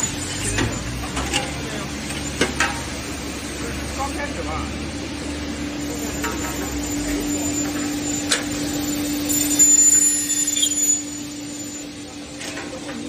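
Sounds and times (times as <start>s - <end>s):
milling machine humming: 0.0s - 12.4s
high whine: 0.0s - 12.5s.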